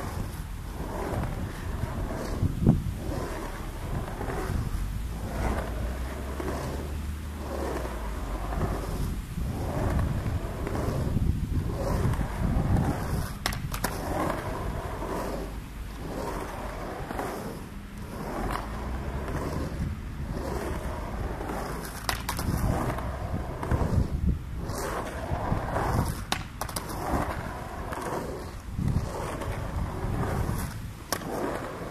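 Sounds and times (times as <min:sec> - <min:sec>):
skateboard clacks: 0:00.0 - 0:31.9
skateboard wheels rolling on concrete: 0:00.0 - 0:31.9.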